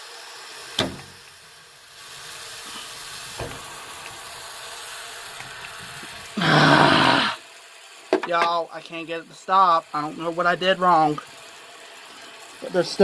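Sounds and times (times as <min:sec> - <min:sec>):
water hissing through drain valve: 0:00.0 - 0:13.0.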